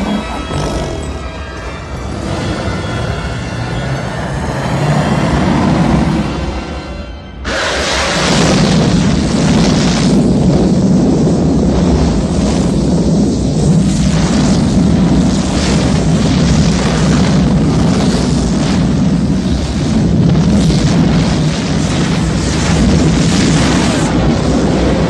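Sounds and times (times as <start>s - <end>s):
fire blast rushing rumble: 0.0s - 6.7s, 7.4s - 25.0s.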